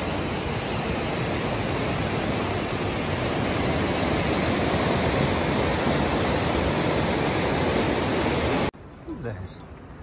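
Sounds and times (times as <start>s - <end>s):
river rushing over rocks: 0.0s - 8.7s.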